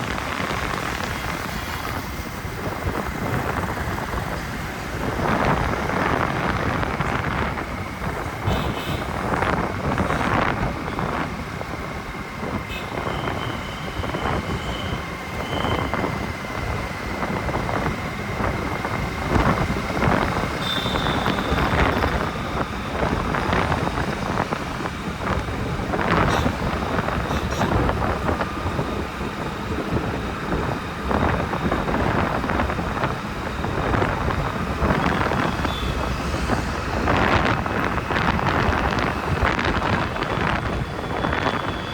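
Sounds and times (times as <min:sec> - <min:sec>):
road and engine noise: 0:00.0 - 0:41.9
wind buffeting microphone: 0:00.0 - 0:41.9.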